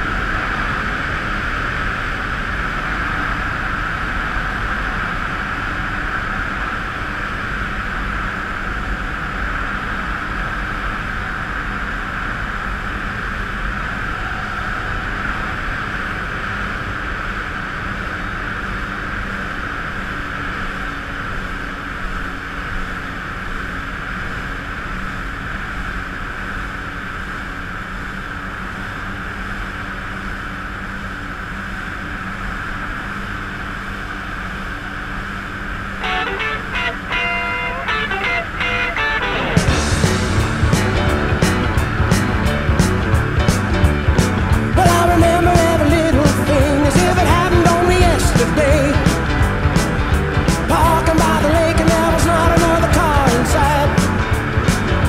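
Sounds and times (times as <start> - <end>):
jet ski engine droning: 0.0 - 55.0.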